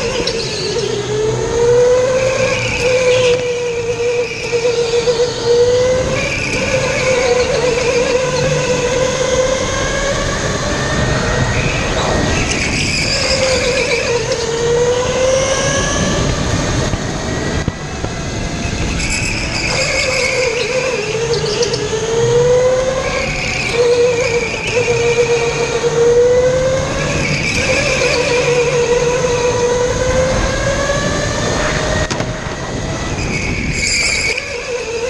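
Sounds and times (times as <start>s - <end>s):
go-kart motor whining: 0.0s - 35.0s
tyre and wind noise: 0.0s - 35.0s.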